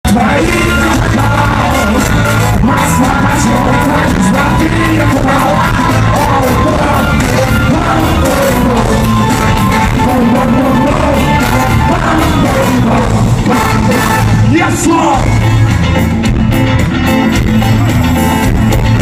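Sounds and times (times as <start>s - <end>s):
rock song playing loud: 0.0s - 19.0s.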